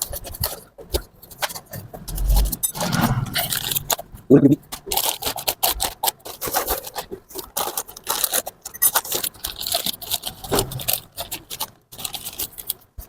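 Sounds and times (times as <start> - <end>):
hard parts clicking: 0.0 - 12.8
packaging rustling: 0.0 - 13.0.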